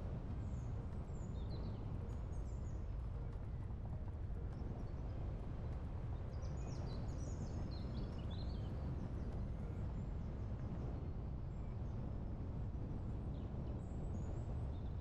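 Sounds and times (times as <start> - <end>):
low rumble of wind: 0.0 - 15.0.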